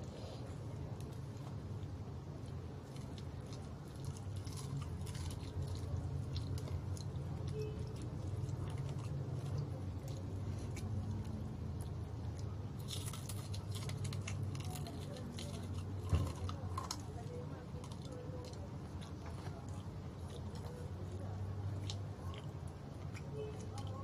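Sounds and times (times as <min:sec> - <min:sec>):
chewing crispy chicken: 0:00.0 - 0:24.0
steady low hum: 0:00.0 - 0:24.0.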